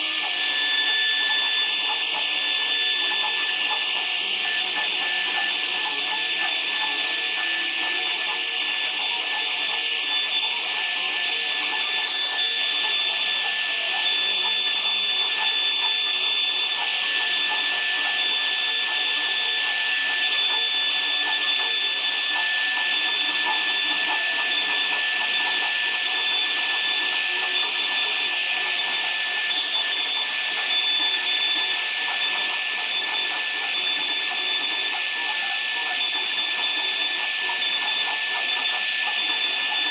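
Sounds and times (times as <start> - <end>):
power tool whining cutting wood: 0.0 - 39.9.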